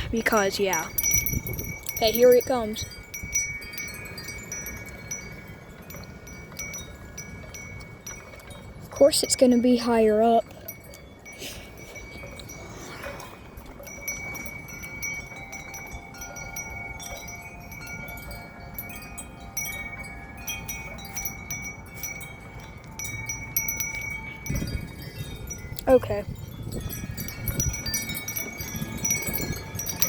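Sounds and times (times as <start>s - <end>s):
metal wind chimes ringing: 0.0s - 30.0s.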